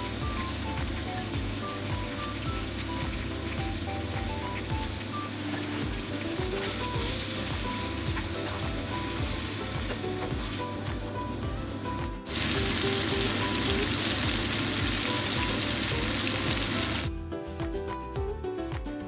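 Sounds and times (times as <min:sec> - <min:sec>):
vegetables sizzling in a pan: 0:00.0 - 0:17.1
light background music: 0:00.0 - 0:19.0.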